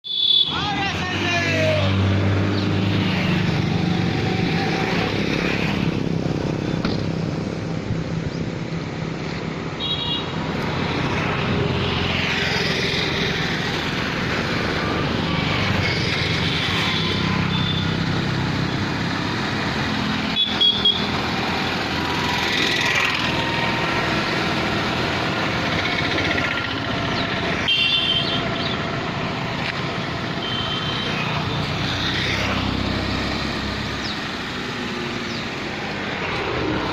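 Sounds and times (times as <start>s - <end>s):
road noise: 0.0s - 36.9s.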